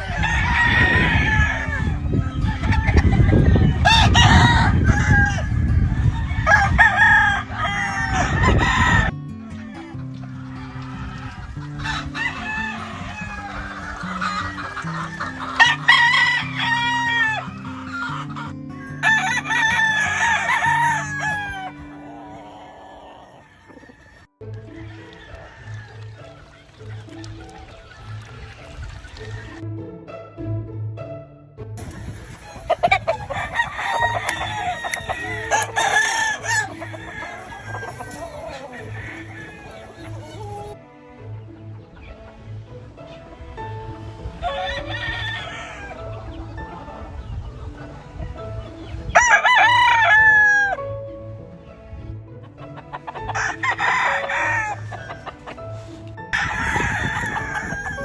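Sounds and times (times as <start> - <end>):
chickens clucking: 0.0 - 29.6, 31.8 - 58.0
roosters crowing: 0.0 - 29.6, 31.8 - 51.1, 52.5 - 58.0.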